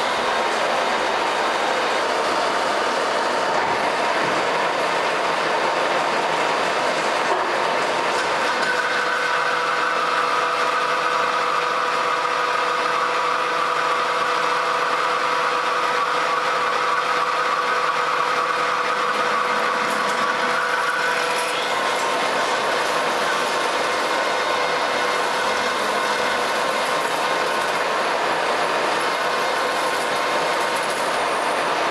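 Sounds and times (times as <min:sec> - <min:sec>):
lathe cutting steel: 0:00.0 - 0:31.9
machine hum: 0:00.0 - 0:31.9.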